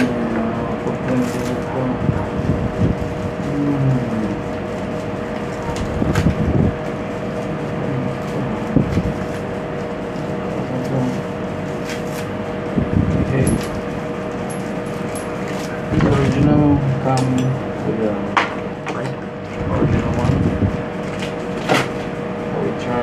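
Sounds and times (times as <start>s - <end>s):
constant hum: 0.0s - 23.0s.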